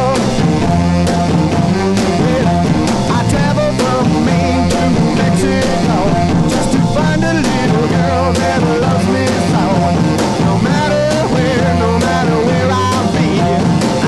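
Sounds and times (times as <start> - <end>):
drum kit hits: 0.0 - 14.0
rock music: 0.0 - 14.0.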